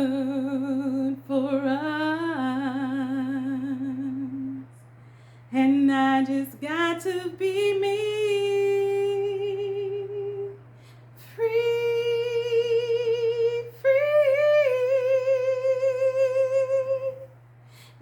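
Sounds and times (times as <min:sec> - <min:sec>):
woman singing a cappella: 0:00.0 - 0:18.0.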